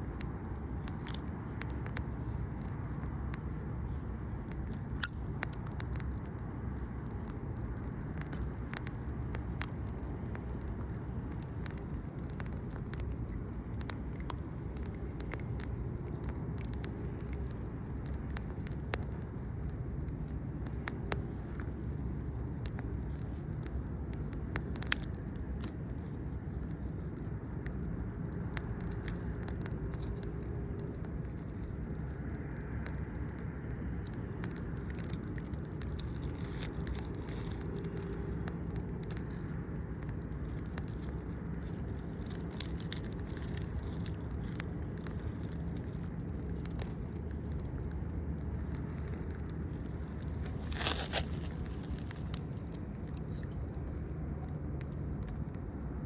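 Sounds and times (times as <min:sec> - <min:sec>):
fire low rush: 0:00.0 - 0:56.0
fire popping: 0:00.0 - 0:56.0
wood crackling: 0:00.0 - 0:56.0.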